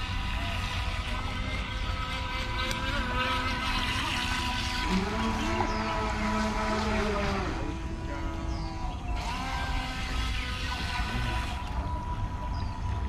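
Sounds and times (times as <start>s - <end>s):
model boat motor whining: 0.0s - 13.0s.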